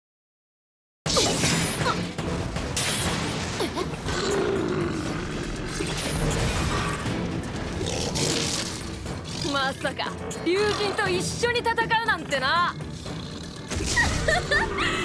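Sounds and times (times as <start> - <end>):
dramatic orchestral music: 1.2 - 15.0.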